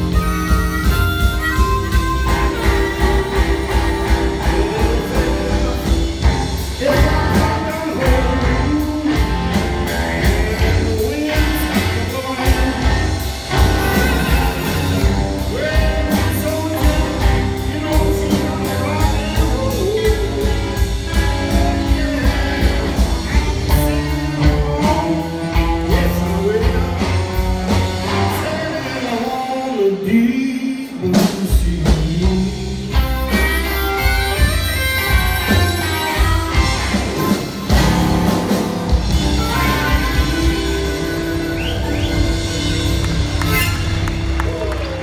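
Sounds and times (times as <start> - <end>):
live blues band: 0.0 - 45.0
man singing: 2.1 - 38.6.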